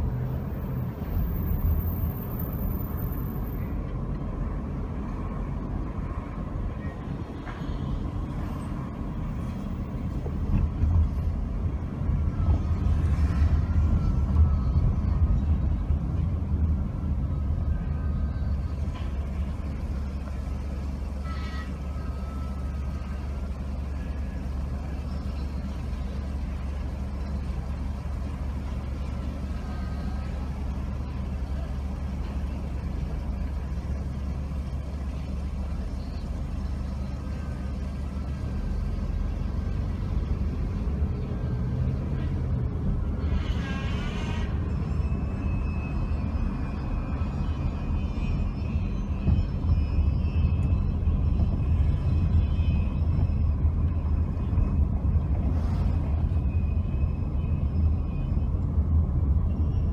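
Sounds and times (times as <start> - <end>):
car engine rumble inside cabin: 0.0 - 43.6, 44.5 - 59.9.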